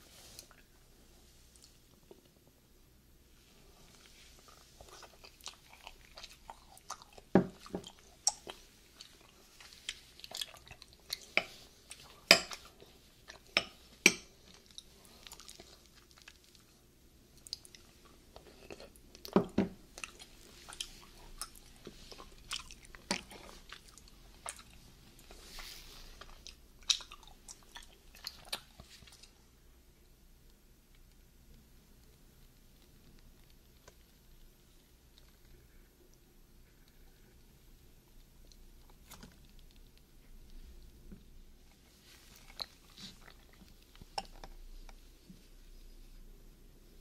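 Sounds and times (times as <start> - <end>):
chewing and wet mouth sounds: 3.5 - 46.3.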